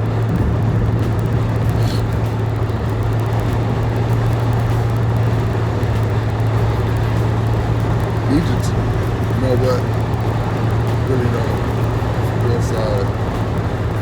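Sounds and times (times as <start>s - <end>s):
car interior road and engine noise: 0.0s - 14.0s.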